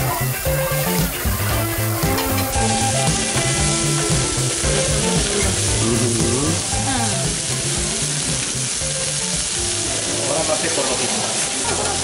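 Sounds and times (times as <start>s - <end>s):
music playing: 0.0s - 12.0s
vegetables sizzling on a griddle: 0.0s - 12.0s.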